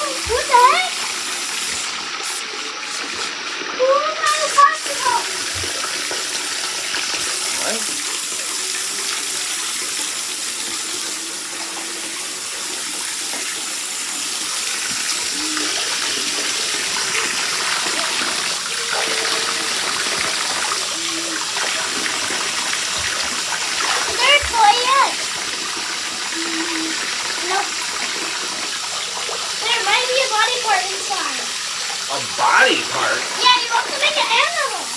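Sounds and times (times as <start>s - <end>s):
bath tap running into tub: 0.0s - 34.9s.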